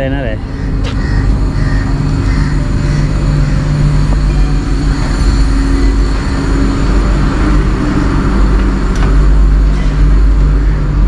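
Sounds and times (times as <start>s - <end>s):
boat machinery rumble: 0.0s - 11.0s.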